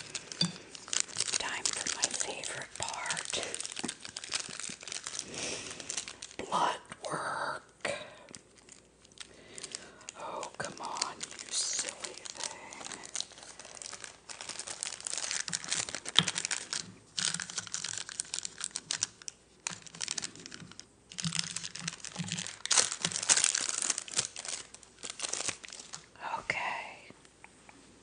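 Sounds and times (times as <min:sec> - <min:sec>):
packaging crinkling and clicking: 0:00.0 - 0:06.4, 0:08.3 - 0:26.1.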